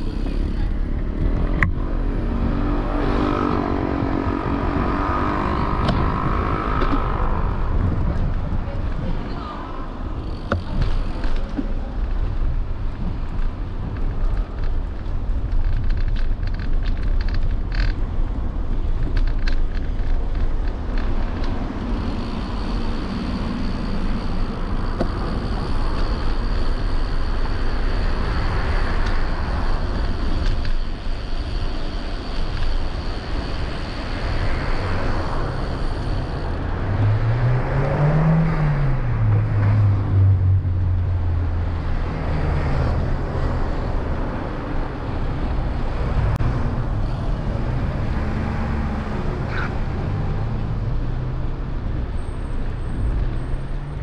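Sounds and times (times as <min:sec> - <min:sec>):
motor vehicle engine: 0:00.0 - 0:54.0
passing traffic: 0:00.0 - 0:54.0
wind and road noise rumble: 0:00.0 - 0:54.0.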